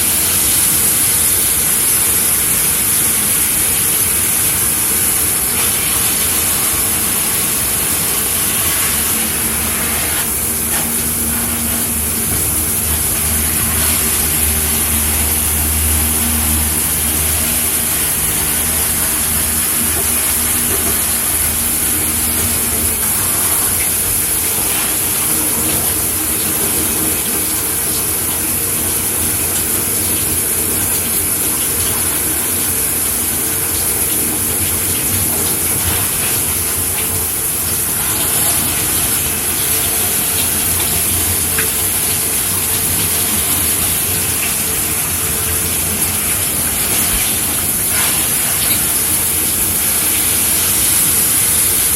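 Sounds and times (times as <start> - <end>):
shower head spraying water: 0.0 - 51.9.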